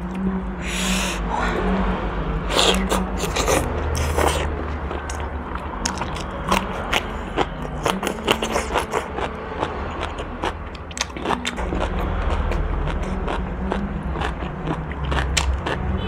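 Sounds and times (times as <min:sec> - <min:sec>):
low hum: 0:00.0 - 0:16.0
chewing and mouth smacking: 0:02.5 - 0:15.9.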